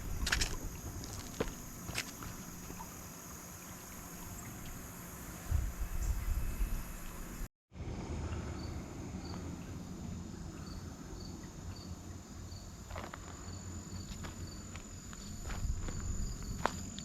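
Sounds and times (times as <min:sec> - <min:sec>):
insects chirping: 0:00.0 - 0:07.5, 0:08.6 - 0:17.0.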